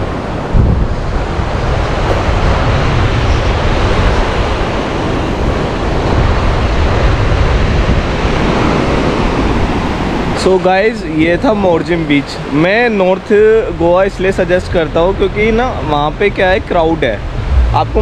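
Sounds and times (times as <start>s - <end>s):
surf washing on beach: 0.0s - 18.0s
wind rumbling on microphone: 0.0s - 18.0s.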